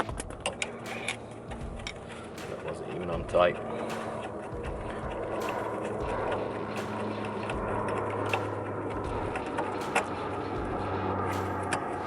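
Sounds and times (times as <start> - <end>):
sharp metallic clicks: 0.0 - 12.0
steady low hum: 0.0 - 12.0.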